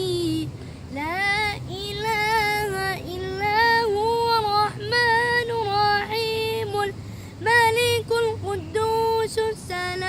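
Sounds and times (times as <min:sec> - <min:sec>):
high voice singing unaccompanied: 0:00.0 - 0:10.0
low steady hum: 0:00.0 - 0:10.0.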